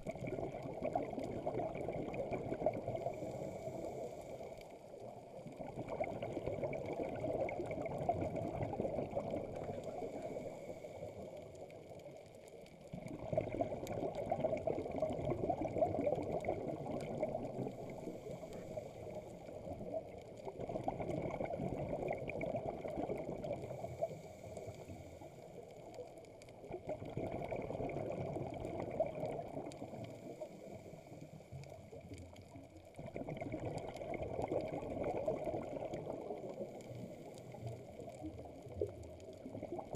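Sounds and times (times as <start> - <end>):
regulator bubbling underwater: 0.0 - 24.8, 25.7 - 30.4, 31.8 - 39.9.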